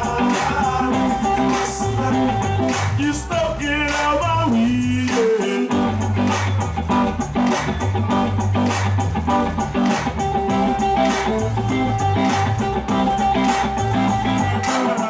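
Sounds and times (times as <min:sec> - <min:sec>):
bass guitar: 0:00.0 - 0:15.0
electric guitar: 0:00.0 - 0:15.0
steady drum beat: 0:00.0 - 0:15.0.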